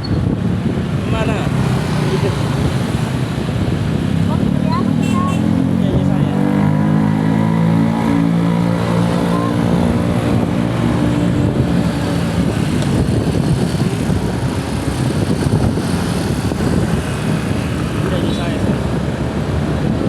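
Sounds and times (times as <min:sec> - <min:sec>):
traffic rumble: 0:00.0 - 0:20.0
vehicle engine humming: 0:01.5 - 0:20.0.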